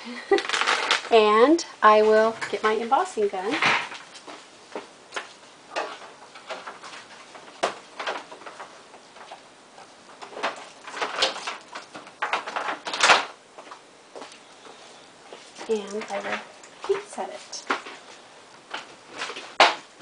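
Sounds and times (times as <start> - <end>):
craft supplies rustling and knocking: 0.3 - 1.2, 3.4 - 20.0
scraping rustle: 1.9 - 20.0.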